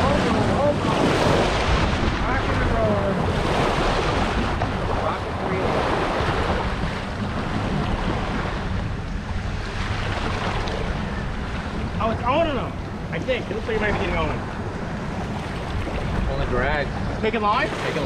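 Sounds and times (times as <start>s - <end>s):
boat engine running: 0.0s - 18.0s
water rushing past hull: 0.0s - 18.0s
wind buffeting microphone: 0.0s - 18.0s.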